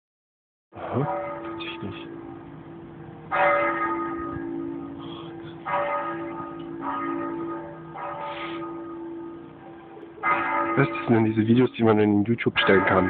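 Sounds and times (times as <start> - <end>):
church bells tolling: 0.8 - 13.0.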